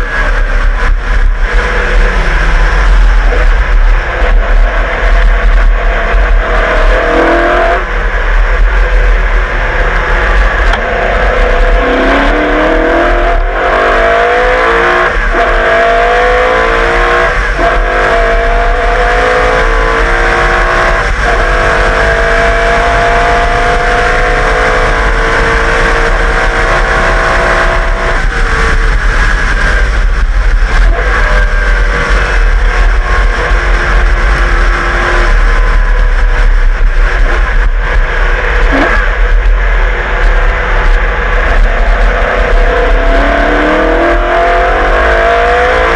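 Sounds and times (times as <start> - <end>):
race car engine accelerating: 0.0 - 45.9.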